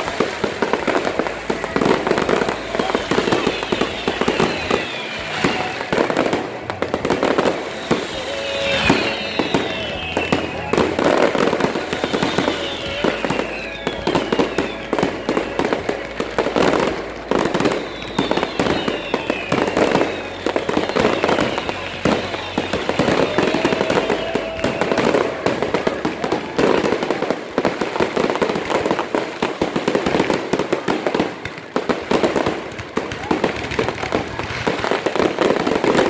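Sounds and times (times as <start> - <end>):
firework whistles: 0.0 - 36.0
fireworks crackling and banging: 0.0 - 36.0.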